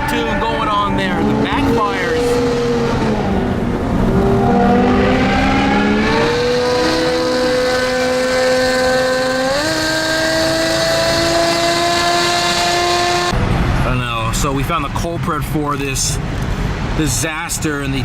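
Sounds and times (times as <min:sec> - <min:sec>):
car engine with loud exhaust: 0:00.0 - 0:18.0.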